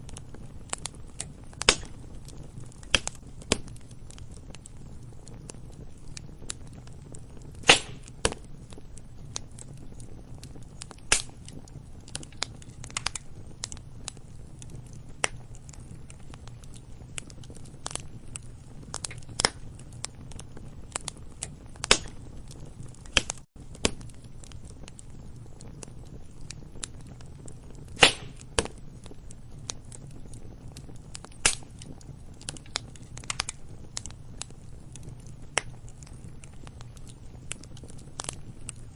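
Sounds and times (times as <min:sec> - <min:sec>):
campfire crackling: 0:00.0 - 0:38.9
low steady background: 0:00.0 - 0:38.9.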